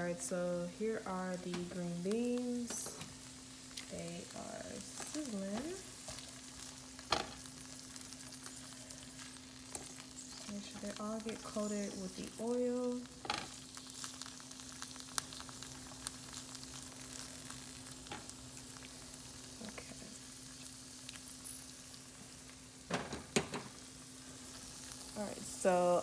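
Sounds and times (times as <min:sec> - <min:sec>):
beans sizzling in oil: 0:00.0 - 0:26.0
faint steady hum: 0:00.0 - 0:26.0.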